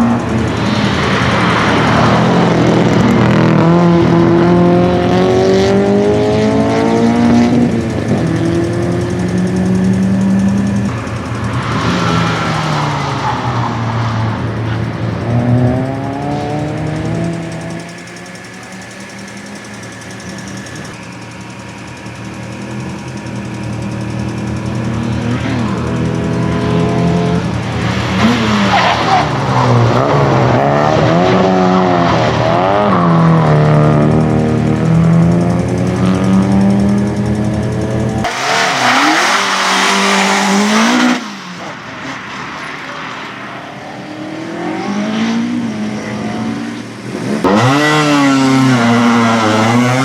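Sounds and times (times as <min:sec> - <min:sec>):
race car engine accelerating: 0:00.0 - 0:50.0.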